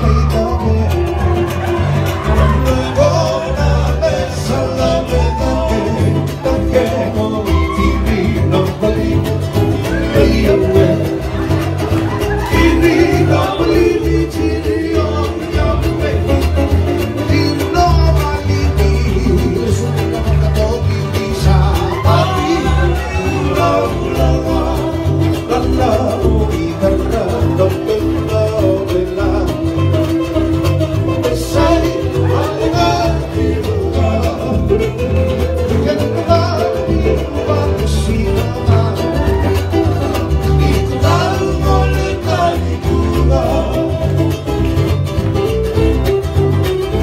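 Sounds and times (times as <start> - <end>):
person singing: 0.0 - 44.8
bass guitar: 0.0 - 47.0
electric guitar: 0.0 - 47.0.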